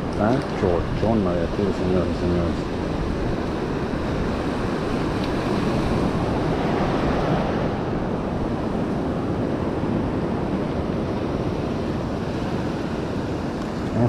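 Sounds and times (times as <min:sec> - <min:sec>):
ocean surf breaking: 0:00.0 - 0:14.0
wind rumbling on microphone: 0:00.0 - 0:14.0.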